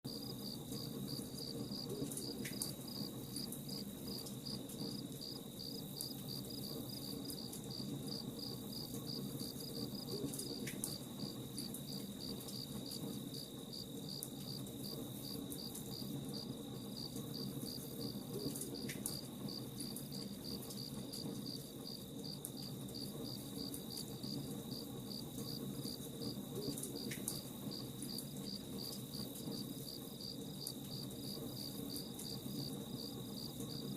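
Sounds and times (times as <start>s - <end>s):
campfire burning: 0.1s - 33.9s
crickets chirping: 0.1s - 33.9s.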